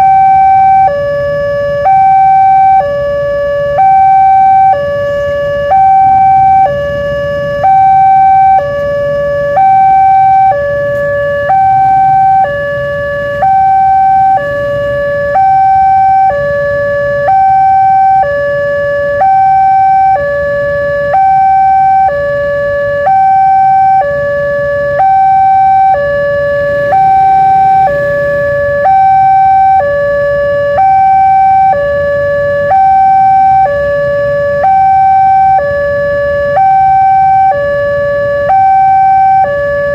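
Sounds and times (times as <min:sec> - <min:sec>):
level-crossing two-tone siren: 0:00.0 - 0:39.9
low traffic rumble: 0:00.0 - 0:39.9.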